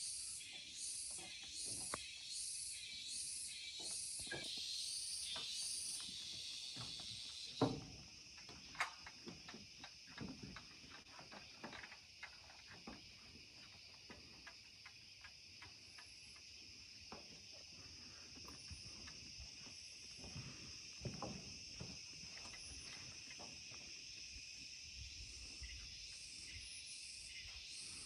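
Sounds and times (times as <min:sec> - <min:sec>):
insect chorus buzzing: 0:00.0 - 0:28.0.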